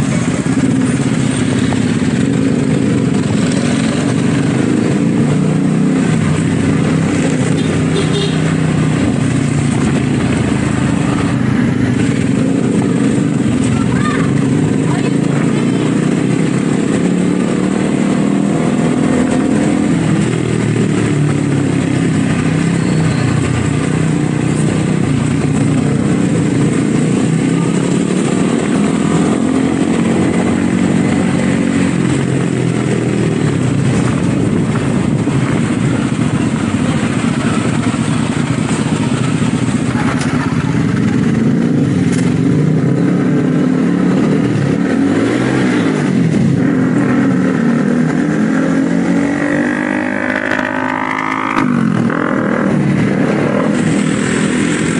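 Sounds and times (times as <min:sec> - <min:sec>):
motorcycle engine revving: 0:00.0 - 0:54.9
wind and road noise: 0:00.0 - 0:54.9.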